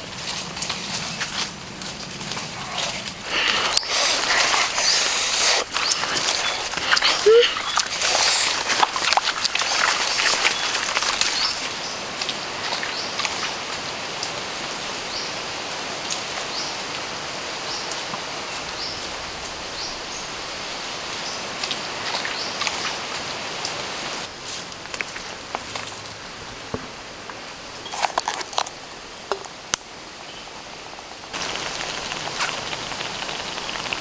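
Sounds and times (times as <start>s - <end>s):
rustling of leaves and brush: 0.0s - 34.0s
steady high hiss: 1.2s - 27.8s, 28.8s - 34.0s.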